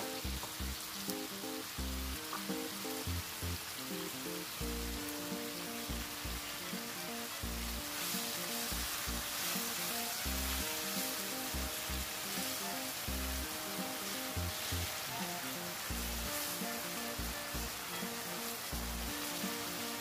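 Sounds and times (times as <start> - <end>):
background music: 0.0 - 20.0
meat sizzling in frying pan: 0.0 - 20.0.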